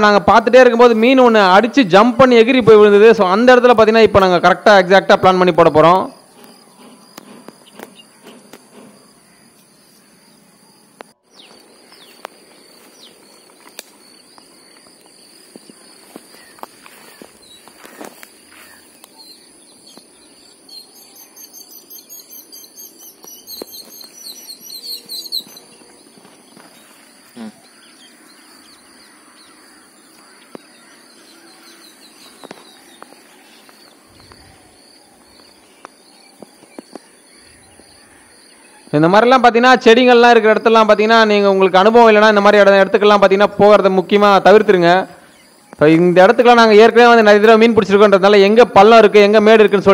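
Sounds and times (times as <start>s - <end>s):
birds chirping: 0.0s - 49.9s
insects trilling: 0.0s - 49.9s.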